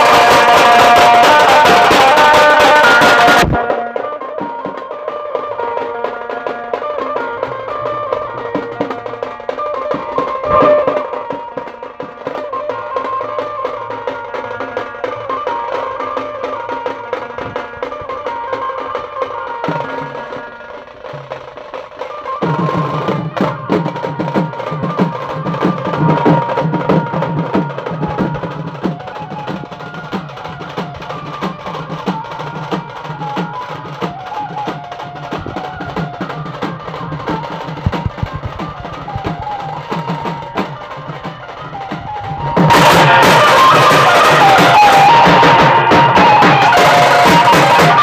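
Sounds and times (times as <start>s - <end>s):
barrel drums beaten fast: 0.0s - 48.0s.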